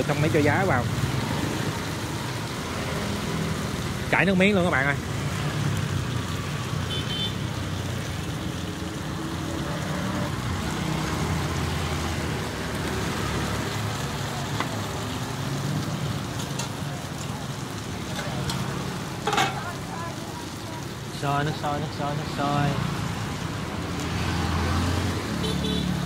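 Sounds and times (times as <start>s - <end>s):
food sizzling in woks: 0.0s - 26.0s.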